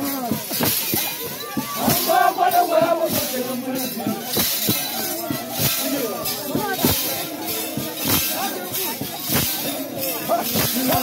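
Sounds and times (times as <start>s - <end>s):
rattles shaking: 0.0s - 11.0s
voices singing and calling: 0.0s - 11.0s.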